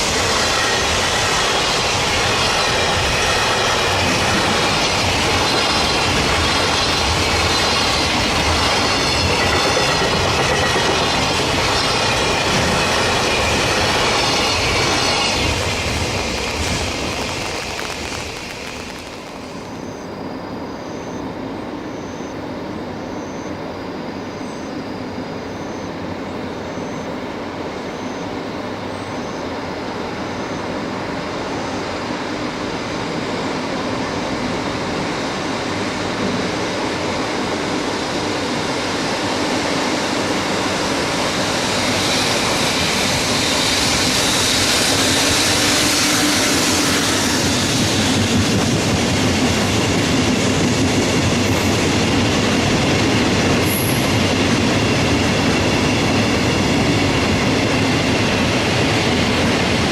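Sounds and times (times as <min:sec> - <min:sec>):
freight train rumbling on rails: 0:00.0 - 0:59.9.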